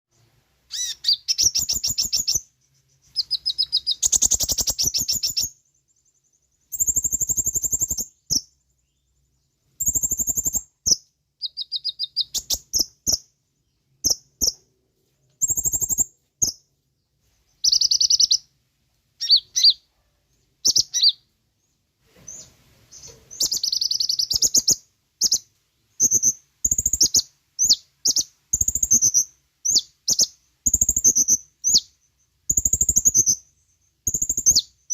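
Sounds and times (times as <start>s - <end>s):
bird singing chirps and trills: 0.7s - 14.6s, 15.4s - 16.6s, 17.5s - 18.5s, 19.2s - 19.8s, 20.6s - 34.9s.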